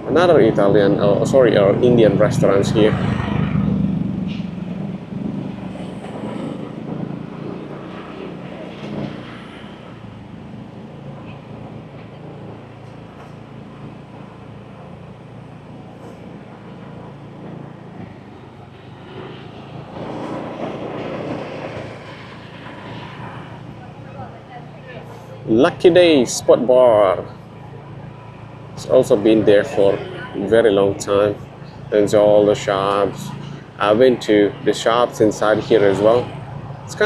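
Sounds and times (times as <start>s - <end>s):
motorbike riding slowly: 0.0s - 37.0s.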